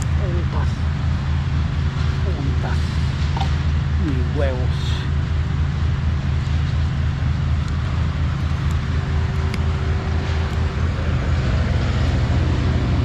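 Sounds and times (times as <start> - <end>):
faint steady whine: 0.0 - 13.0
heavy machine engine humming: 0.0 - 13.0.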